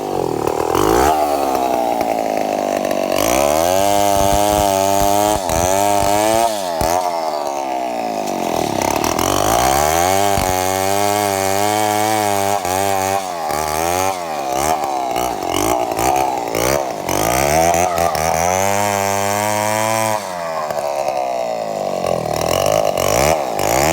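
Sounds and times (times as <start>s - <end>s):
two-stroke chainsaw running: 0.0s - 23.9s.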